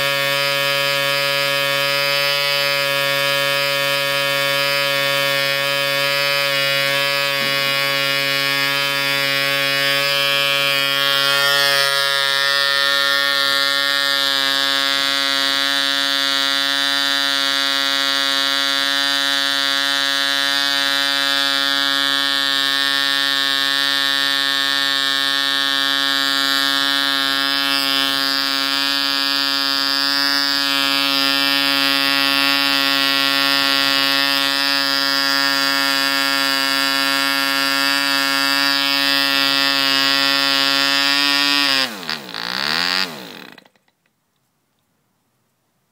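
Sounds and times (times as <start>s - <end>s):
small engine buzzing: 0.0s - 44.1s.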